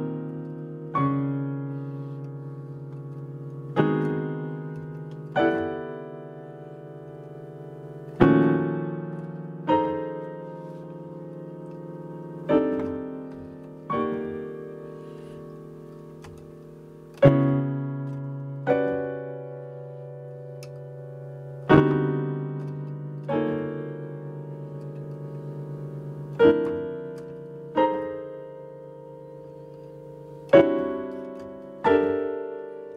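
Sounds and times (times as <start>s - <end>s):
digital piano playing sustained chords: 0.0s - 32.9s.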